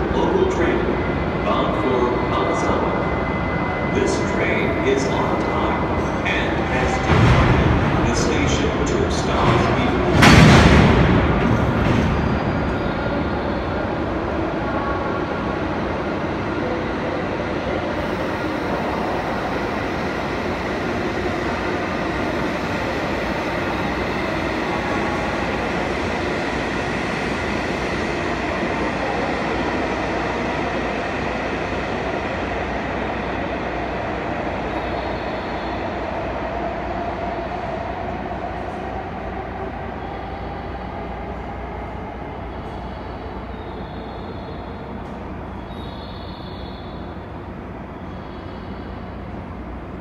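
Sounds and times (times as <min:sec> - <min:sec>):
freight train rail noise: 0:00.0 - 0:50.0.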